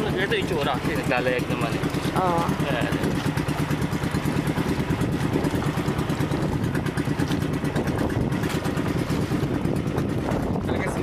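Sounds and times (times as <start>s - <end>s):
boat engine chugging: 0.0s - 11.0s.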